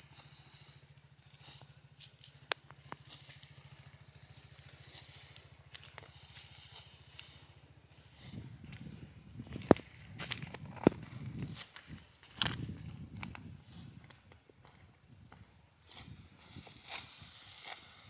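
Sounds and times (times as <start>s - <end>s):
faint clicks and rustles: 0.0s - 18.0s
small engine low throb: 0.0s - 18.0s.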